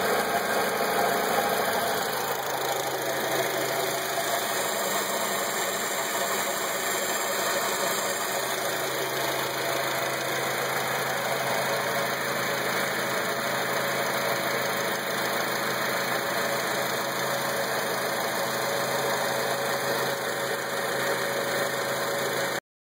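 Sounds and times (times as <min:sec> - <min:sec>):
car engine idling: 0:00.0 - 0:22.6
odd engine noise: 0:00.0 - 0:22.6.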